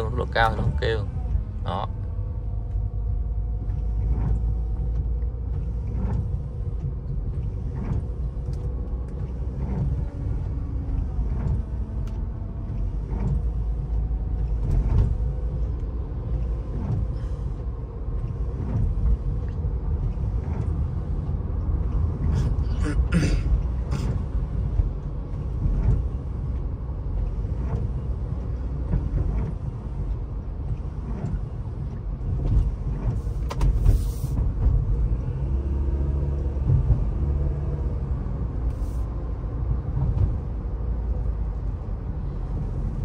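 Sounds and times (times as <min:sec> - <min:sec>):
road rumble: 0:00.0 - 0:43.0.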